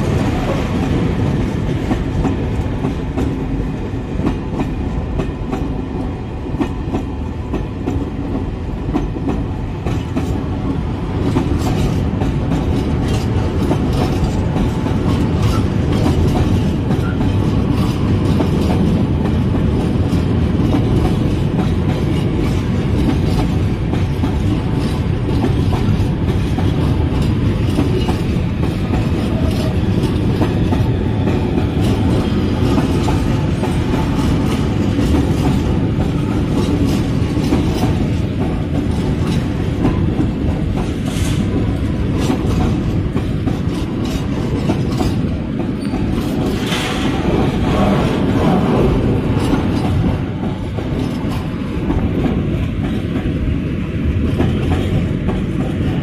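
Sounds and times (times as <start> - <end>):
freight train rolling: 0.0 - 56.0
train wheels clickety-clack: 0.0 - 56.0.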